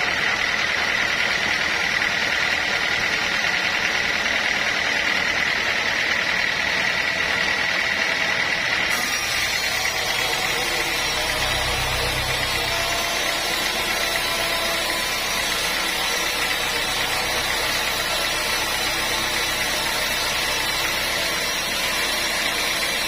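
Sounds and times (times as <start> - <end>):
sawmill machinery whining: 0.0 - 23.0.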